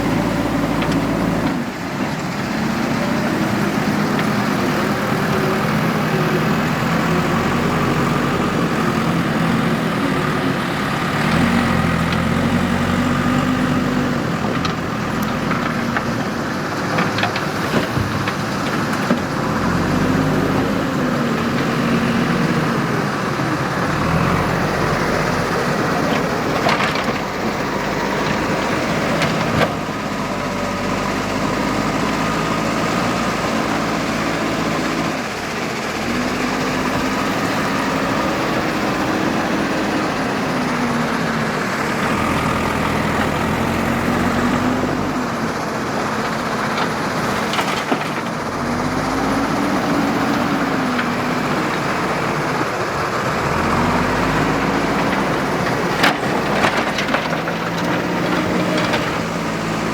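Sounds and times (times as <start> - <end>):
backhoe diesel engine revving: 0.0 - 59.9.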